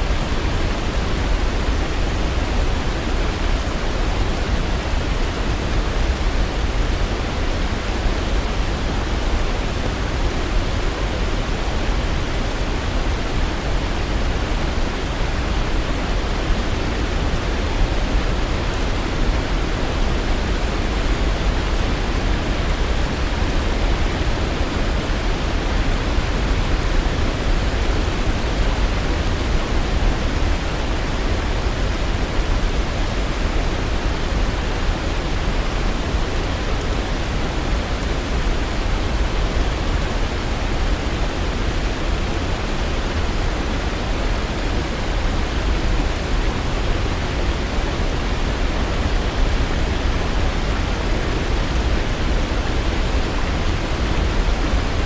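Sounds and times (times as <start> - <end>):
waterfall rushing: 7.5 - 55.0.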